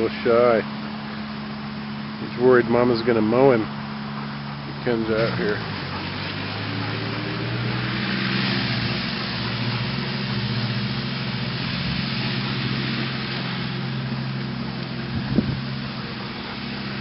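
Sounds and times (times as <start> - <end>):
mower hiss: 0.0 - 17.0
tractor engine drone: 0.0 - 17.0.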